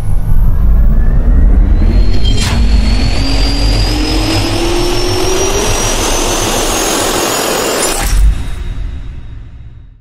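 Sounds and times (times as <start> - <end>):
jet turbine whine spooling up: 0.0 - 8.6
loud rushing noise: 0.0 - 9.6.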